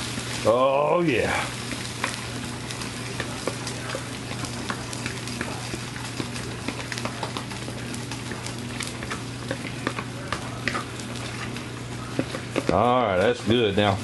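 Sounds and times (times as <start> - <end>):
batter sizzling in skillet: 0.0 - 14.0.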